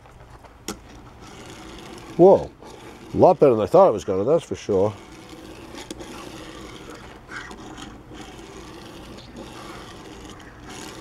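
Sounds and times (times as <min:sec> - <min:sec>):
toy truck wheels rolling on table: 0:00.7 - 0:11.0.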